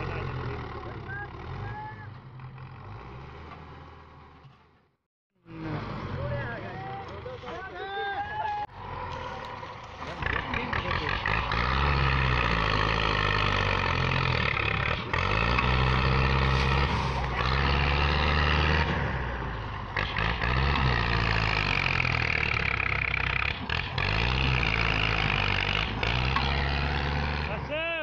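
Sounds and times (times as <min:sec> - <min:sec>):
tractor diesel engine straining: 0:00.0 - 0:28.0.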